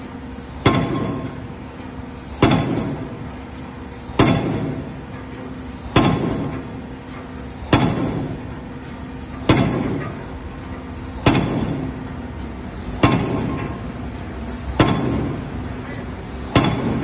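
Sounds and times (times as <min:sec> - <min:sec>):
heavy machine striking: 0:00.0 - 0:17.0.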